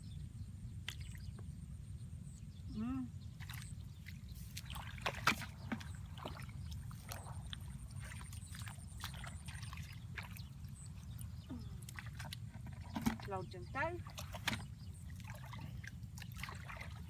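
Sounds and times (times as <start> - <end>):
steady low rumble: 0.0 - 17.0
water splashing and sloshing: 3.3 - 17.0.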